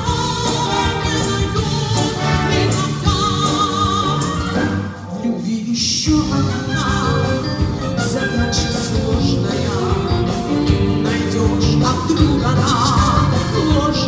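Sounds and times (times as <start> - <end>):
brass band playing: 0.0 - 5.2, 6.2 - 14.0
woman singing with vibrato: 0.0 - 14.0.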